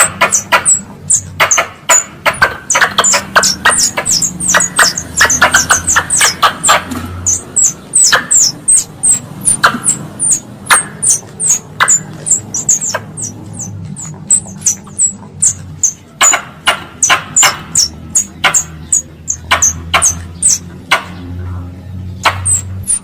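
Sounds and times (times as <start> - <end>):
squirrel call high chirps: 0.0 - 20.7, 22.2 - 23.0.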